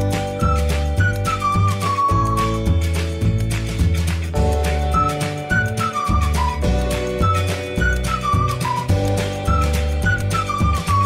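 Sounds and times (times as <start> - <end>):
melody over bass and beat: 0.0 - 11.0.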